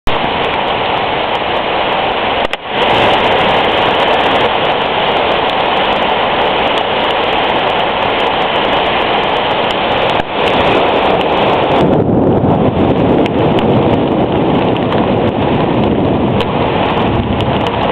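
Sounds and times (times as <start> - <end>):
heavy rain pouring: 0.0 - 17.9
wind: 0.0 - 17.9.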